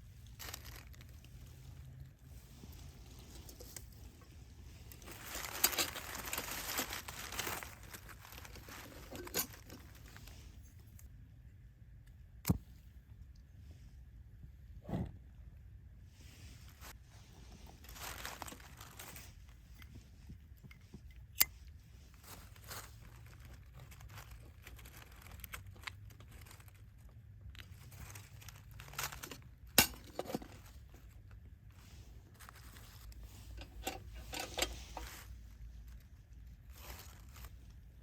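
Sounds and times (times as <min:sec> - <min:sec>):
camping gear crinkling and rustling: 0:00.0 - 0:11.1, 0:16.2 - 0:38.0.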